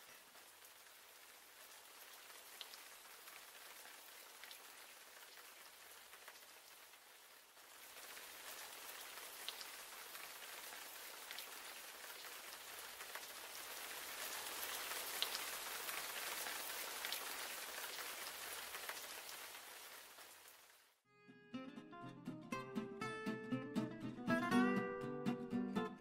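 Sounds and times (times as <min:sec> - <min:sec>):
single raindrops ticking: 0:00.0 - 0:20.9
steady rain hiss: 0:00.0 - 0:21.0.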